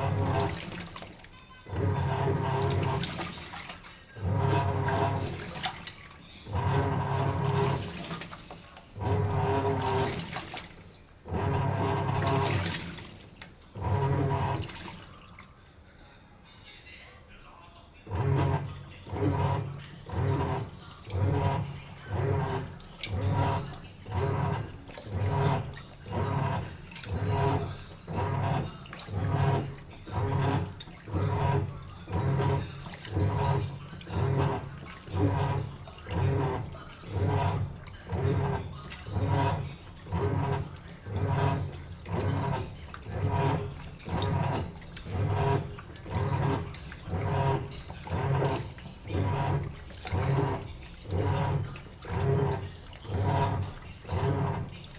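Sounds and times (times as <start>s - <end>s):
washing machine churning water: 0.0s - 17.1s, 17.8s - 54.9s.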